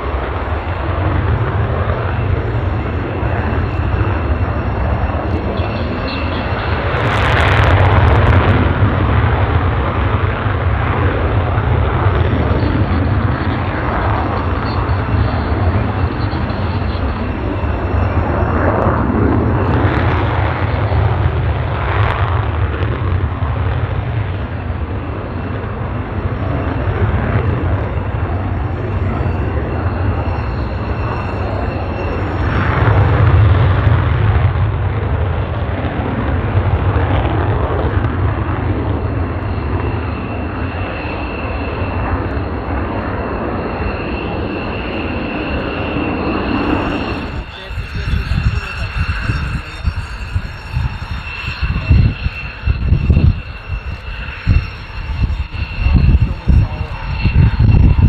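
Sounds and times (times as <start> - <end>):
jet engine rumble: 0.0 - 58.0
thin high whine: 0.0 - 58.0.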